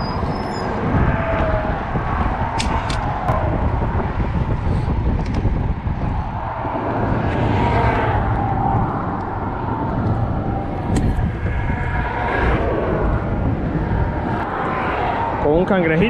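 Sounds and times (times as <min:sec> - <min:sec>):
passing traffic rumble: 0:00.0 - 0:16.0
vehicle passing: 0:00.0 - 0:16.0.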